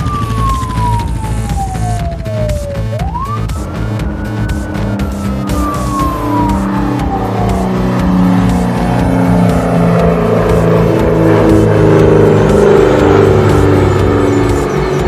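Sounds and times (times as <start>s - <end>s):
background music: 0.0s - 15.0s
car engine: 0.0s - 15.0s
siren wail: 0.0s - 15.0s.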